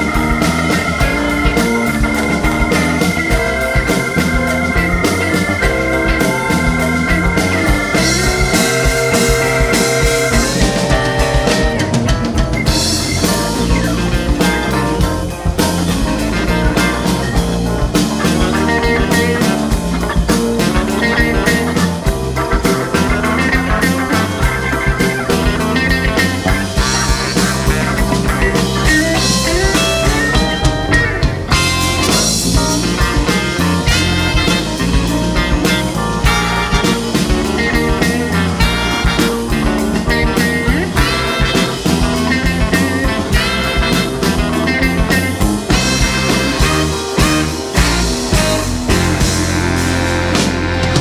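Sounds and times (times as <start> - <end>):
bass: 0.0 - 51.0
drum kit: 0.0 - 51.0
electric guitars: 0.0 - 51.0
organ: 0.0 - 51.0
saxophones: 0.0 - 51.0
trumpet: 0.0 - 51.0.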